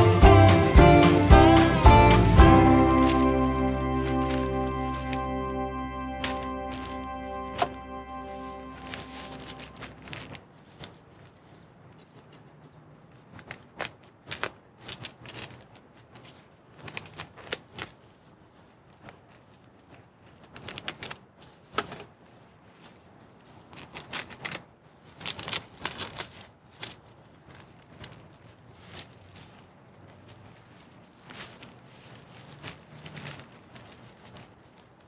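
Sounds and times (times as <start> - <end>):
paper packaging crinkling: 2.6 - 35.0.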